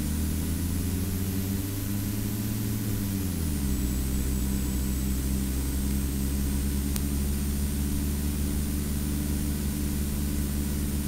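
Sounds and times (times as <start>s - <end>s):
faint high whine: 0.0s - 11.0s
road and wind noise: 0.0s - 11.0s
vehicle engine drone: 0.0s - 11.0s.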